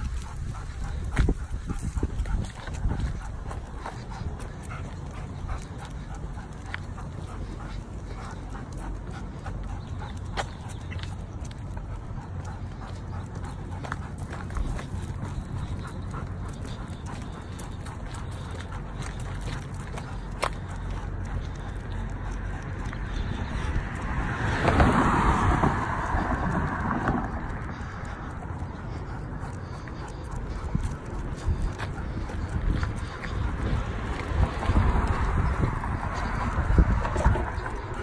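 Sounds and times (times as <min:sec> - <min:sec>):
footsteps on sidewalk: 0:00.0 - 0:38.0
wind buffeting microphone: 0:00.0 - 0:38.0.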